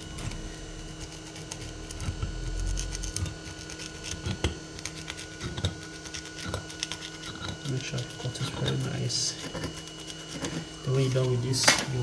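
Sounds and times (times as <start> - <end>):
knife rasping through foam: 0.0 - 11.6.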